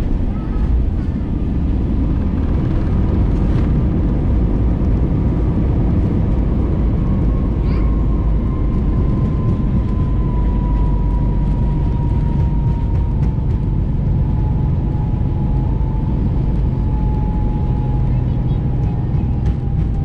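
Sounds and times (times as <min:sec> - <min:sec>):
jet engine whine falling in pitch: 0:00.0 - 0:20.0
wheels and airframe rumbling: 0:00.0 - 0:20.0.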